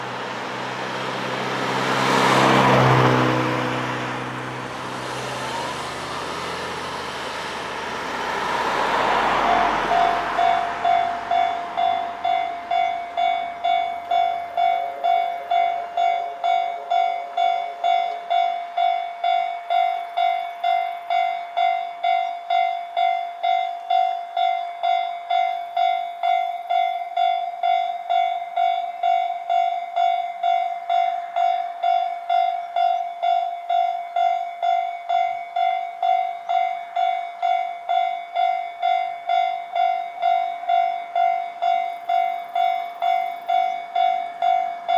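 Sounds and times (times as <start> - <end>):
level crossing warning bell: 0.0 - 44.9
road vehicles passing: 0.0 - 44.9.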